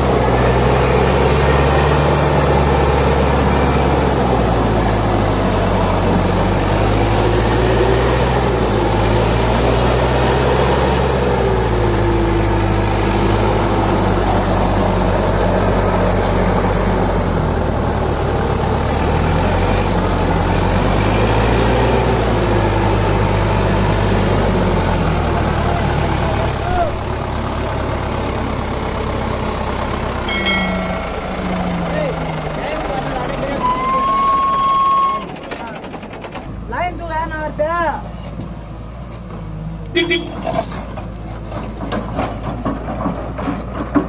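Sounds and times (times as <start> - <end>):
tractor diesel engine running: 0.0 - 37.5.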